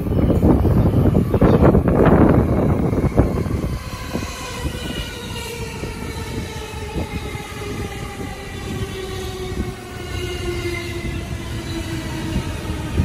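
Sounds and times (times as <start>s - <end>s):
electric train whine: 0.0s - 13.0s
train wheels rumbling: 0.0s - 13.0s.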